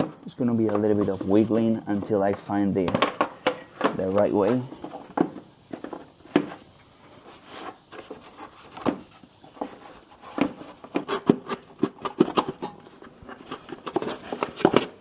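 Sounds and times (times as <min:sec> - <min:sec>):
plastic cover knocking and scraping: 0:00.0 - 0:06.7, 0:07.3 - 0:15.0.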